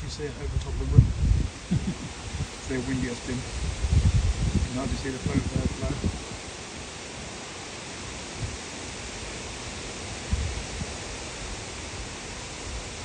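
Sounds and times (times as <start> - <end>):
wind buffeting thumps: 0.0 - 7.4, 8.2 - 9.4, 10.1 - 13.0
wind hiss on microphone: 0.0 - 13.0.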